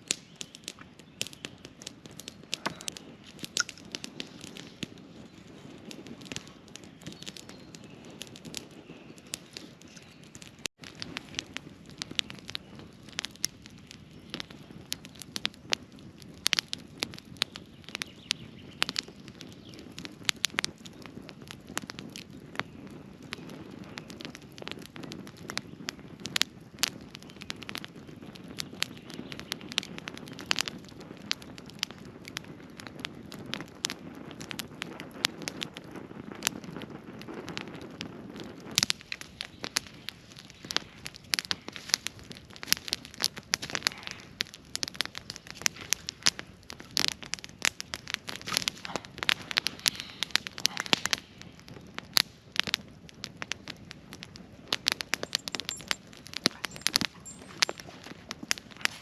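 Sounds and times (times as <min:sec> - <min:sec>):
campfire crackling: 0:00.0 - 0:59.0
low rush of flames: 0:00.0 - 0:59.0
sharp fire pops: 0:00.0 - 0:59.0.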